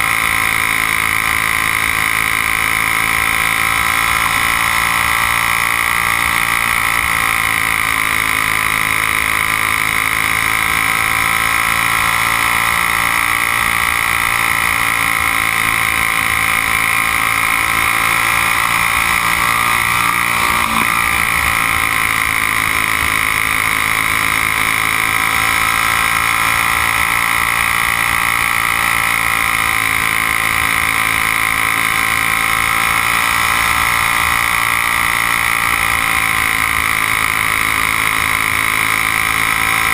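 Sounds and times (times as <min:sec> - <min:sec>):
kart engine revving high: 0:00.0 - 0:39.9.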